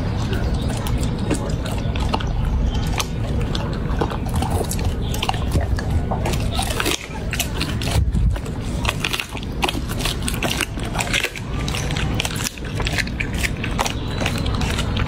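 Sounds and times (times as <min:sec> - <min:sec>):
dog licking and chewing: 0:00.0 - 0:15.0.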